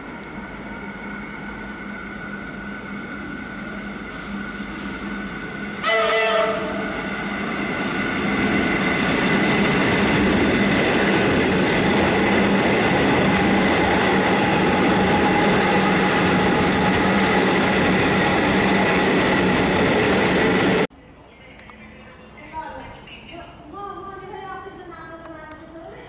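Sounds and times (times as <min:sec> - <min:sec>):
train wheels rumbling on rail: 0:00.0 - 0:20.9
train hum and whine: 0:00.0 - 0:26.0.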